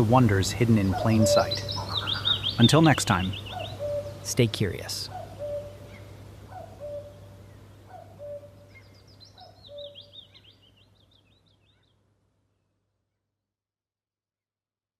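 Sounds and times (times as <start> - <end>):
high twittering birdsong: 0.0 - 12.1.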